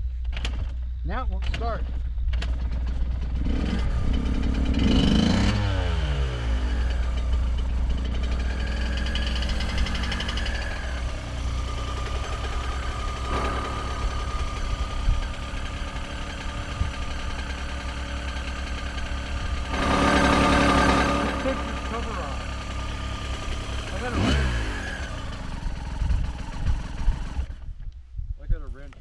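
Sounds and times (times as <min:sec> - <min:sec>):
motorcycle engine idling and revving: 0:00.0 - 0:28.1.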